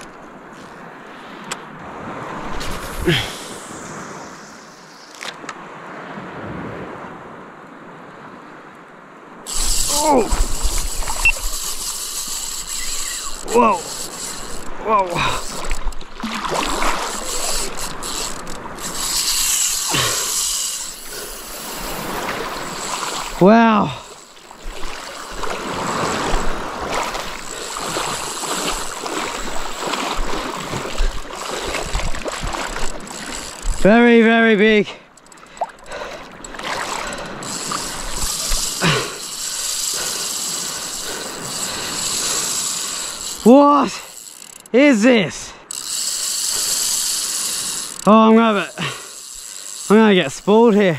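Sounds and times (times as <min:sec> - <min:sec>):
fishing reel drag buzzing: 0:02.5 - 0:05.4, 0:09.5 - 0:50.9.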